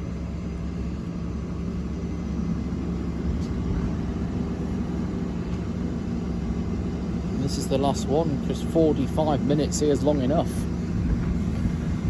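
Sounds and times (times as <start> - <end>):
train mechanical hum: 0.0 - 12.0.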